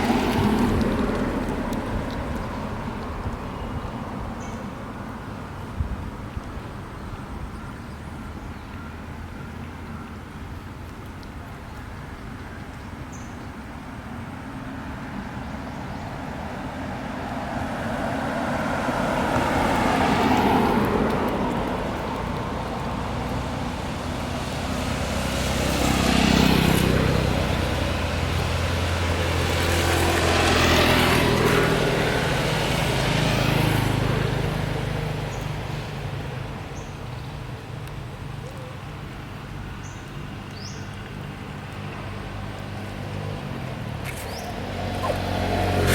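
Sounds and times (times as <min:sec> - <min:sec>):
vehicles driving past: 0:00.0 - 0:45.9.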